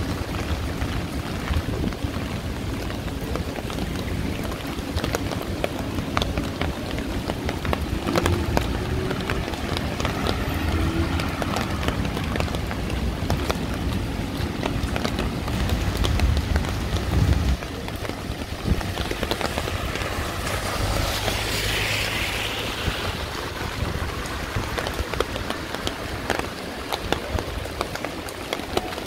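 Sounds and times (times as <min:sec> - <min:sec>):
heavy rain falling: 0:00.0 - 0:29.0
low rumble of street traffic: 0:00.0 - 0:29.0.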